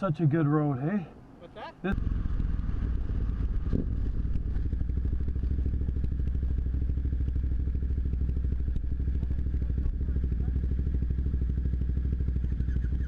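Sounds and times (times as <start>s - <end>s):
motorcycle engine idling: 1.9s - 13.0s.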